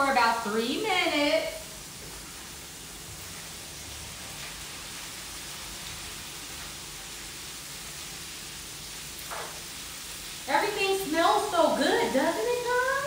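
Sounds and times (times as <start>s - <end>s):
peppers sizzling in frying pan: 0.0s - 13.0s.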